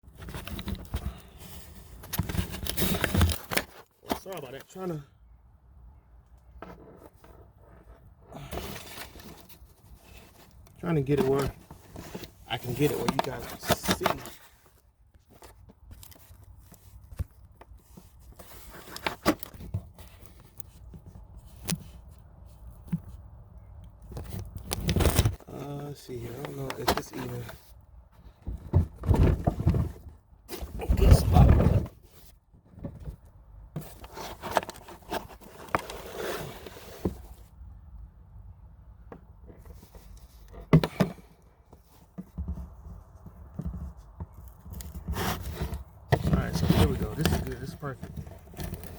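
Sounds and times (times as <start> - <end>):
camera handling scraping and rustling: 0.1 - 4.7, 6.4 - 25.5, 26.2 - 37.6, 39.3 - 48.9.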